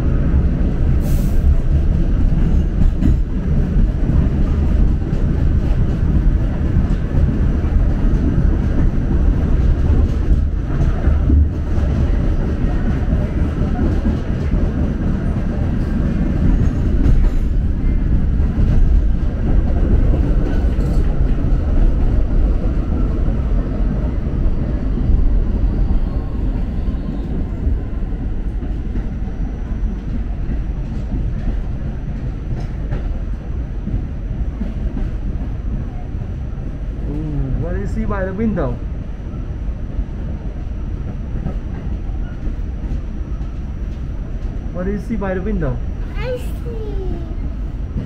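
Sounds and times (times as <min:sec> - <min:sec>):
subway train wheels rumbling: 0:00.0 - 0:48.0.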